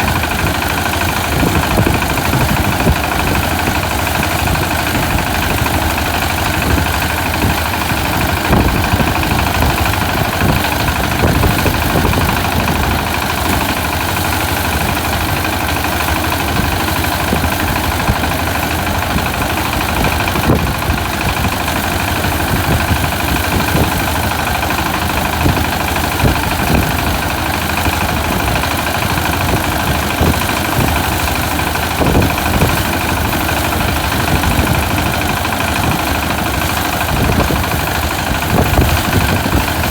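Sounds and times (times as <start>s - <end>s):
harvesting machine engine running: 0.0s - 39.9s.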